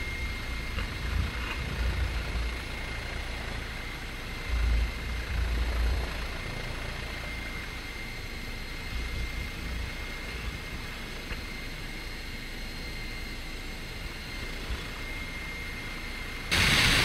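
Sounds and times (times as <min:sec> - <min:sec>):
helicopter cabin drone: 0:00.0 - 0:17.0
high whine: 0:00.0 - 0:17.0.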